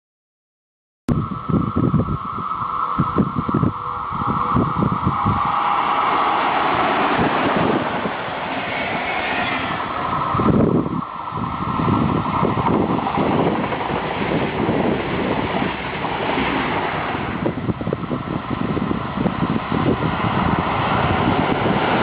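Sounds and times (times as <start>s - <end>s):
wind buffeting microphone: 1.1s - 22.0s
train rushing past: 1.2s - 22.0s.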